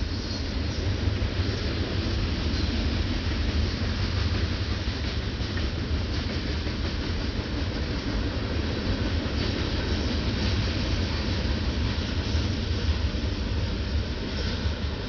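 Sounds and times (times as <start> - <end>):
freight train rolling past: 0.0 - 15.0
steel wheels rumbling on rails: 0.0 - 15.0.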